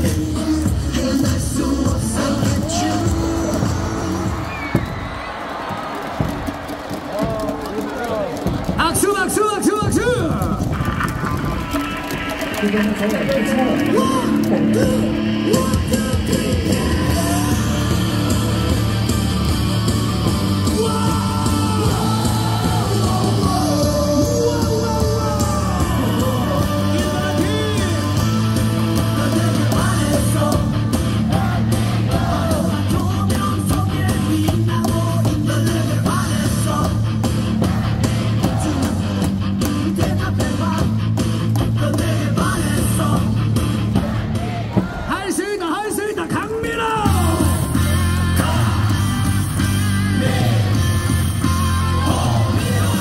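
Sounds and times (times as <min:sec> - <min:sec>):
rock song over loudspeakers: 0:00.0 - 0:53.0
crowd yelling: 0:01.9 - 0:34.4, 0:35.5 - 0:40.4, 0:42.2 - 0:53.0.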